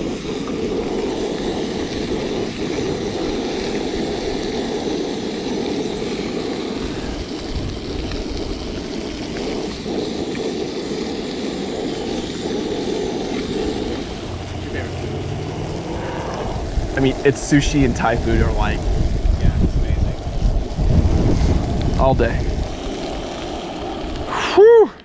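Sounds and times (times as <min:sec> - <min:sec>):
camping stove roaring: 0:00.0 - 0:25.0.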